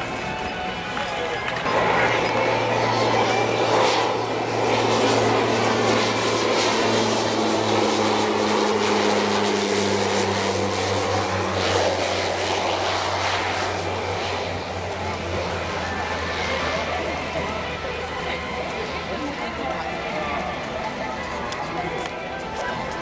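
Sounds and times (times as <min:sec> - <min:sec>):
propeller plane droning past: 0:00.0 - 0:23.0.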